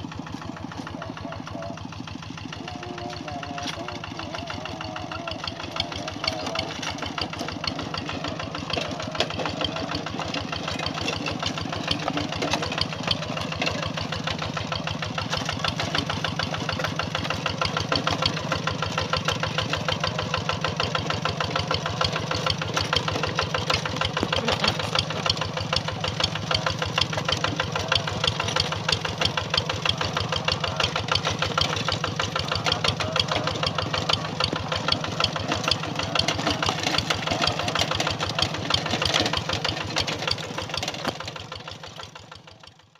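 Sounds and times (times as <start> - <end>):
diesel engine knocking: 0.0 - 42.9.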